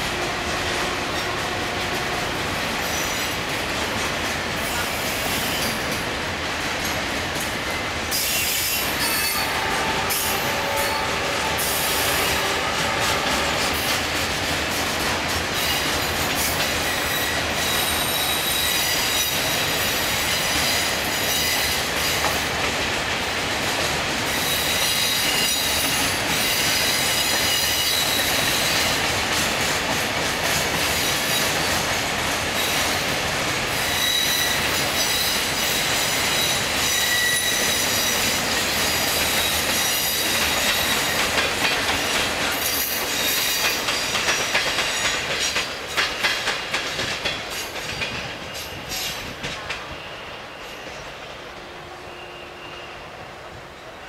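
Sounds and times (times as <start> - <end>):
wheels clacking over rail joints: 0.0 - 50.0
train wheel-on-rail noise: 0.0 - 54.0.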